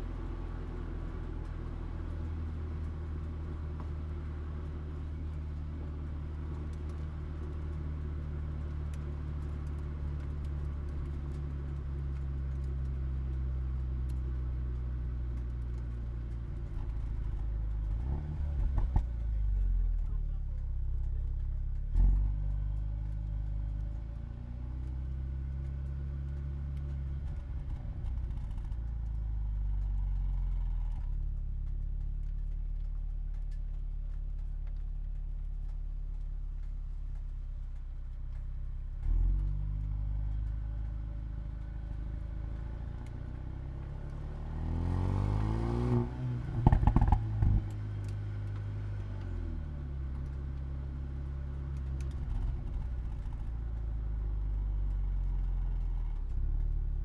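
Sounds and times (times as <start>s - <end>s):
car engine and exhaust accelerating: 0.0s - 57.0s
exhaust pops and crackles: 0.0s - 57.0s
exhaust cracks: 8.9s - 57.0s.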